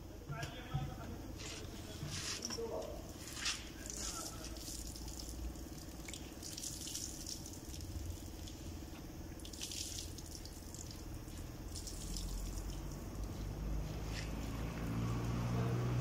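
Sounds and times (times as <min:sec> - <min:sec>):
steady low hum: 0:00.0 - 0:16.0
fuel dripping onto concrete: 0:00.2 - 0:16.0.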